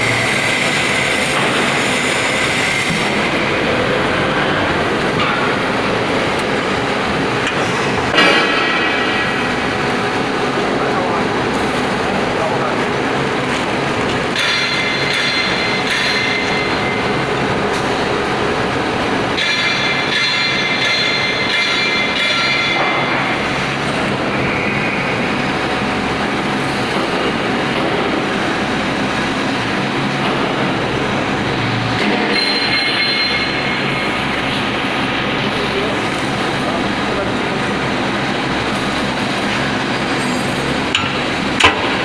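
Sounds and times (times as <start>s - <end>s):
high squealing whine: 0.0s - 13.4s, 14.0s - 42.0s
baler machine running: 0.0s - 42.0s.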